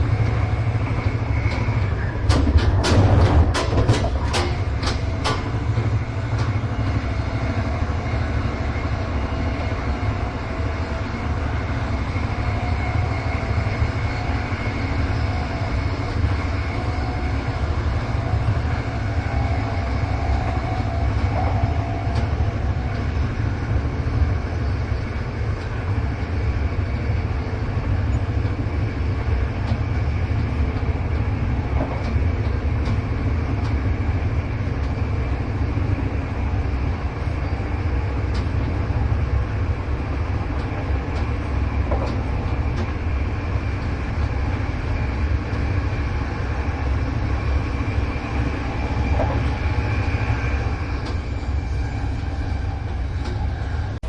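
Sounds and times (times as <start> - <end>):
rail-joint clicks: 0.0 - 9.0, 9.6 - 54.0
train wheels rumbling on rails: 0.0 - 54.0.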